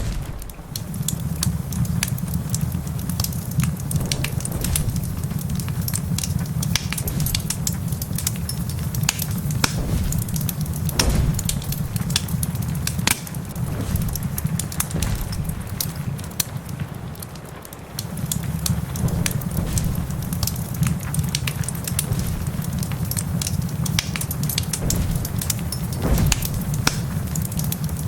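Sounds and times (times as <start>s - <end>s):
low rumble: 0.0s - 17.3s, 18.2s - 28.0s
wood fire crackling: 0.0s - 28.0s.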